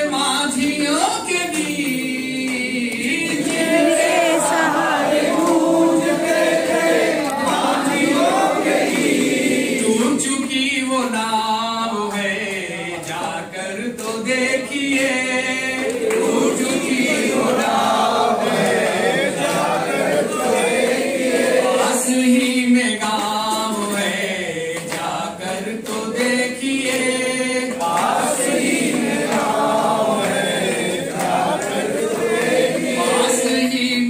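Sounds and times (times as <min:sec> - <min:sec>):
group singing in chorus: 0:00.0 - 0:34.0.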